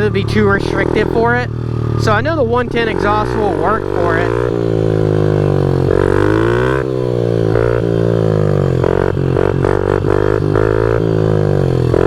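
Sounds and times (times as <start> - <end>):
small motorbike engine revving: 0.0 - 12.0.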